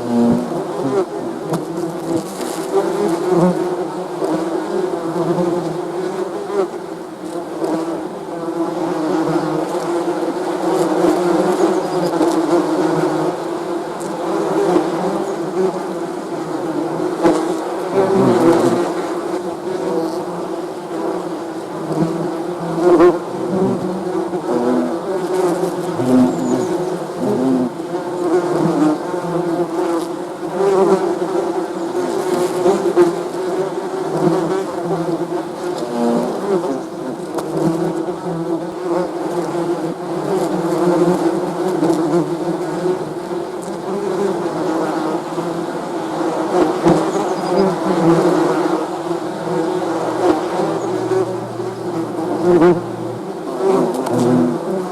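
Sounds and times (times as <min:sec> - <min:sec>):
bees buzzing: 0:00.0 - 0:06.7, 0:07.6 - 0:54.9.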